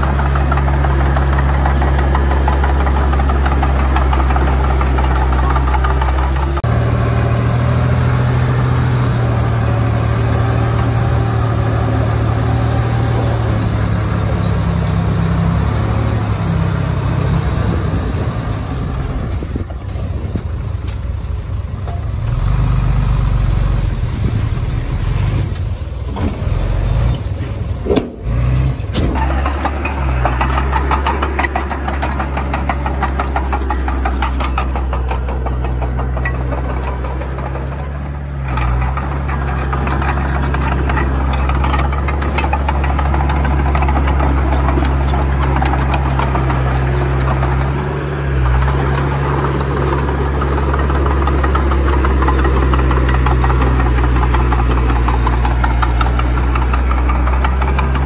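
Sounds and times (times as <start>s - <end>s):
heavy diesel engine working: 0.0s - 58.0s.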